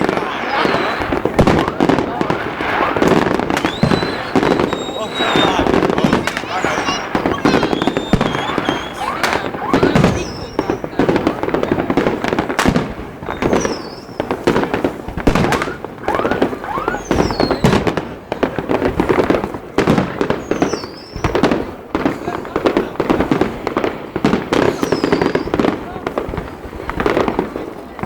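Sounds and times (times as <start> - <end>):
fireworks whistling: 0.0 - 23.4, 24.2 - 25.7
fireworks bangs and crackles: 0.0 - 28.0.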